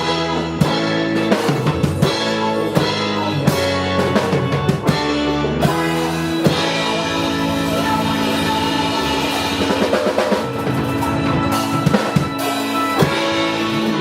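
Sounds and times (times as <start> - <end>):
band playing: 0.0 - 14.0
drum fill: 0.0 - 14.0.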